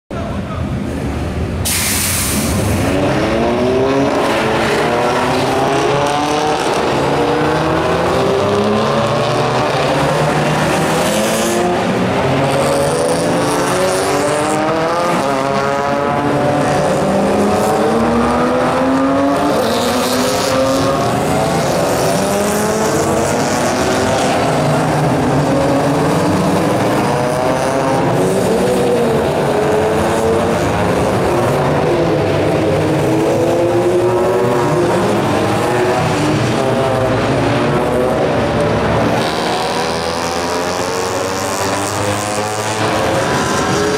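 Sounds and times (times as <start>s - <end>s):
race cars accelerating past: 2.4s - 43.9s.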